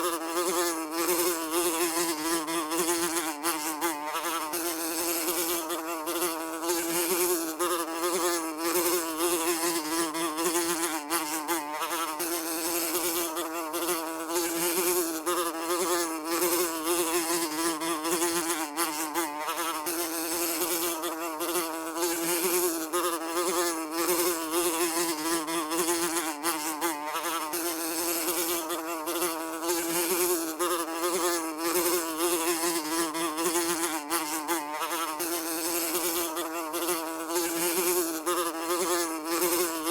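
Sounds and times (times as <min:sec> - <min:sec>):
fly buzzing: 0:00.0 - 0:39.9.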